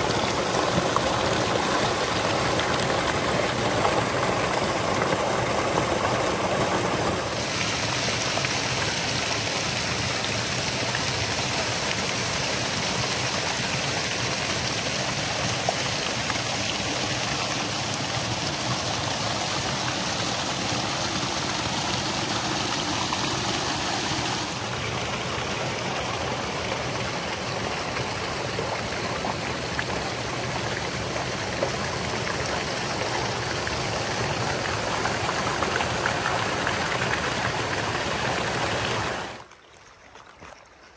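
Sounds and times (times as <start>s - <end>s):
water cascading over rocks: 0.0s - 40.6s.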